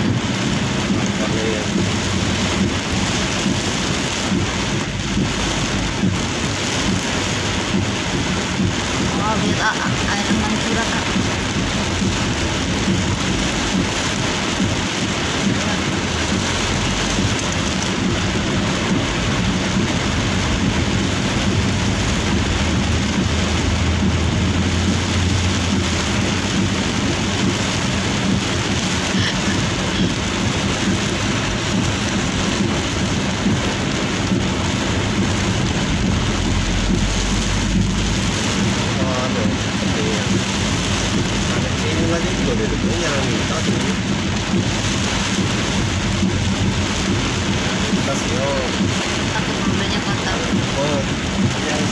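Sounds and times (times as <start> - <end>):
heavy rain on vehicle roof: 0.0 - 51.9
low rumble: 0.0 - 51.9.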